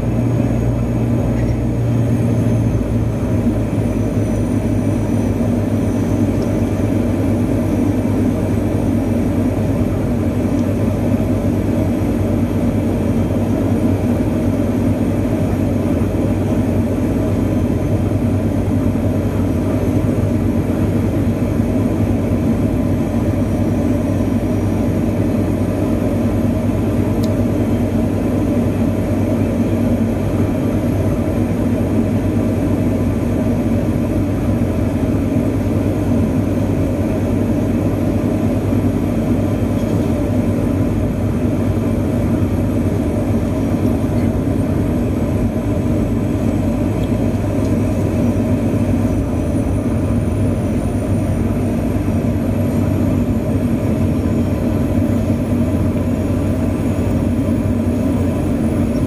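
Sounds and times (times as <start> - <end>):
propeller plane engine drone: 0.0 - 59.0.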